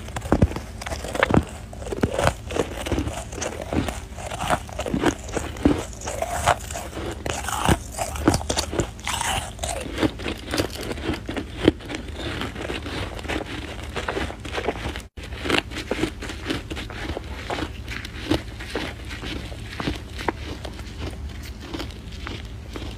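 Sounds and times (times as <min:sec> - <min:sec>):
chewing snow crunches: 0:00.0 - 0:22.9.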